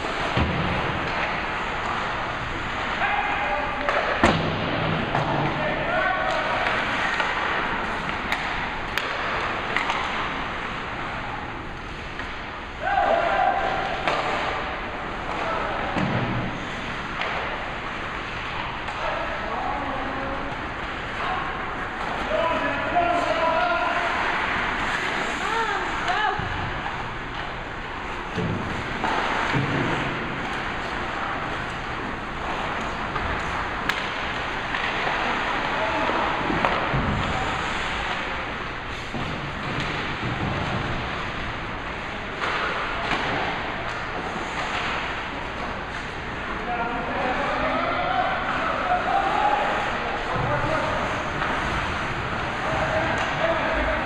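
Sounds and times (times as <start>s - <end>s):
hockey sticks and puck clacking: 0.0s - 54.0s.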